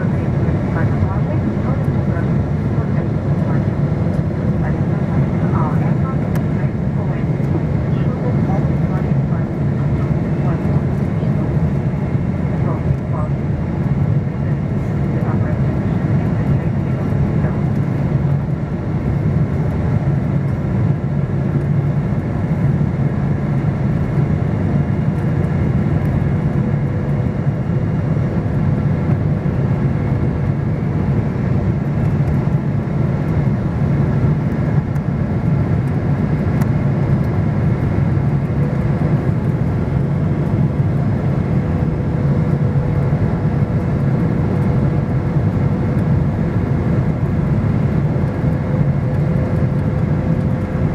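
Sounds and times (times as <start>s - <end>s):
faint engine hum: 0.0s - 50.9s
jet engines roaring in cabin: 0.0s - 50.9s.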